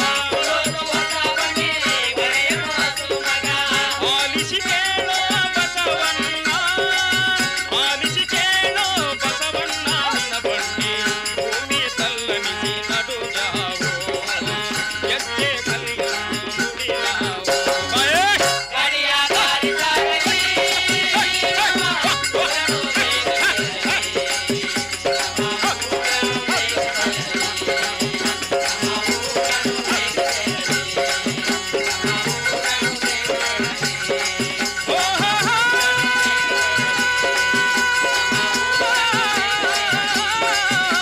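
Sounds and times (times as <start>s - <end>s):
drum beat: 0.0s - 41.0s
person singing: 0.0s - 41.0s
rattling percussion: 0.0s - 41.0s.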